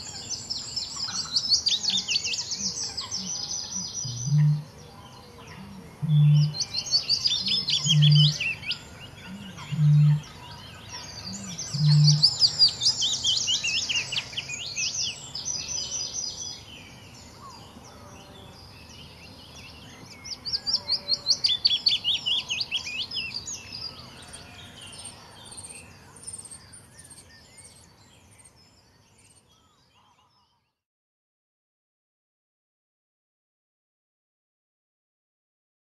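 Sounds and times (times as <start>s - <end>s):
small birds twittering: 0.0s - 30.8s.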